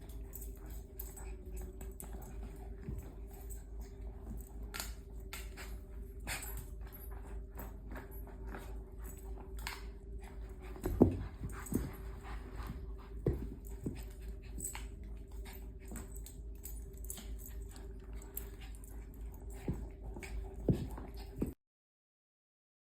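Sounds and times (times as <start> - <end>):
steady low hum: 0.0 - 21.6.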